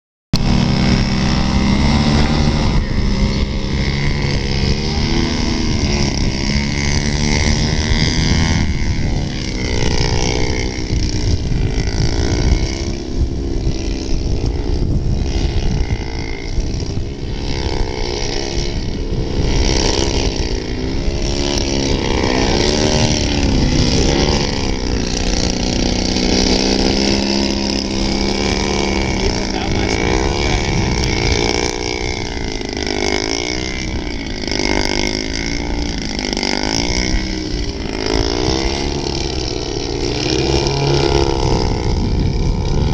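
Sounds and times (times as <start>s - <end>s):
model airplane engines buzzing: 0.4s - 42.9s.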